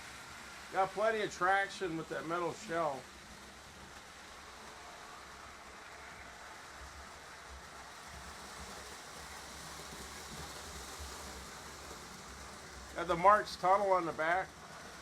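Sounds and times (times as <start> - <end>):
toy train wheels rolling on track: 0.0 - 15.0.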